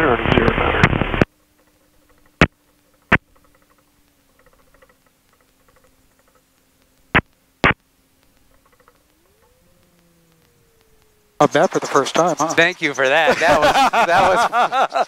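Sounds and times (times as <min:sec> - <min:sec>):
faint intercom hum: 0:00.0 - 0:13.4.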